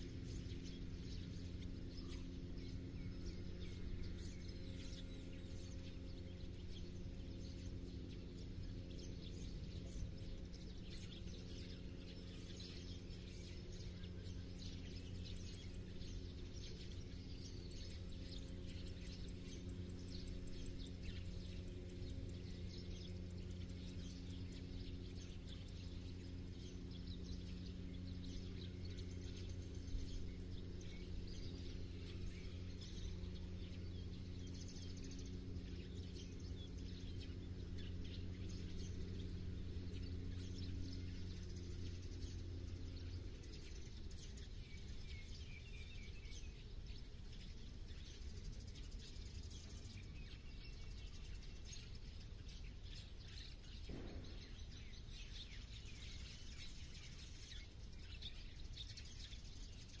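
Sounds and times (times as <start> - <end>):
low steady hum: 0.0 - 60.0
small birds chirping: 0.0 - 60.0.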